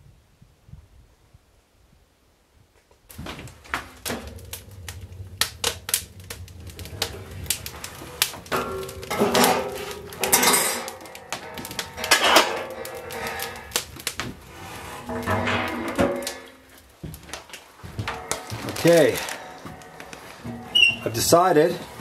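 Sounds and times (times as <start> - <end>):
steel parts clanking and scraping: 3.1 - 22.0.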